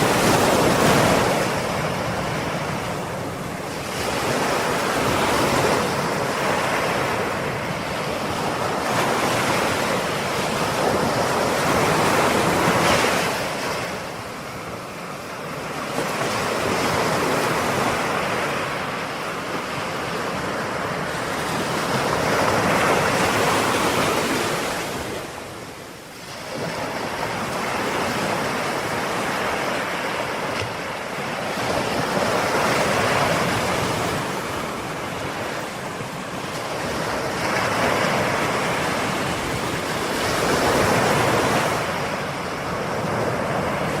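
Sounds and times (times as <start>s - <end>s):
ocean waves breaking on shore: 0.0s - 44.0s.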